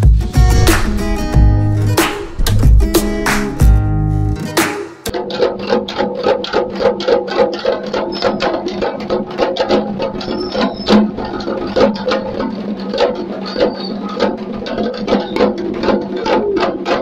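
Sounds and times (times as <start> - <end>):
frame drums beaten with sticks: 0.0 - 17.0.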